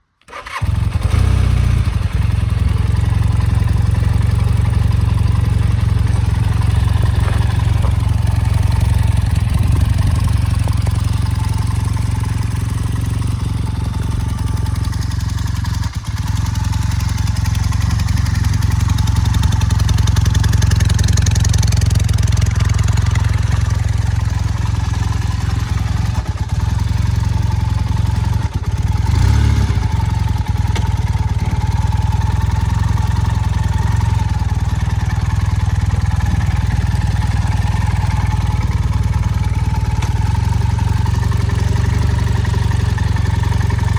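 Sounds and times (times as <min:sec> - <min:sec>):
motorcycle engine running: 0:00.4 - 0:43.9.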